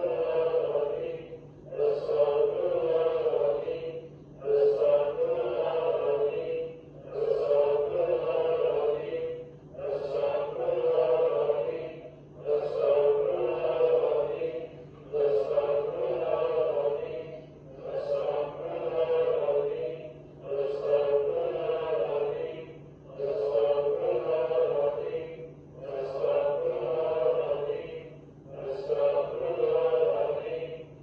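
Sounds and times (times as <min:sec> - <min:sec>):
group of voices chanting: 0:00.0 - 0:30.8
steady low hum: 0:00.0 - 0:31.0.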